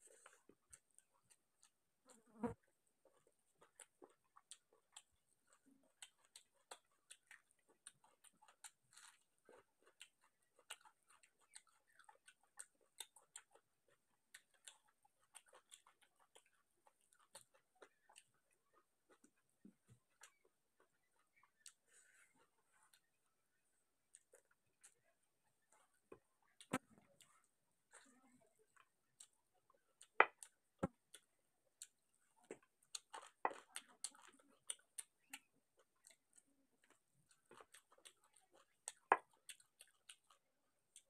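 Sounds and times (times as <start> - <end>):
person chewing: 0.0 - 23.2, 24.0 - 41.0.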